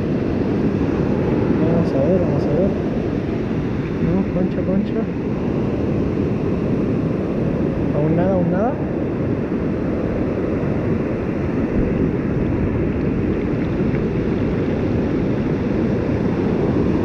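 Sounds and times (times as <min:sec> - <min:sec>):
surf washing over sand: 0:00.0 - 0:17.0
wind rumbling on microphone: 0:00.0 - 0:17.0.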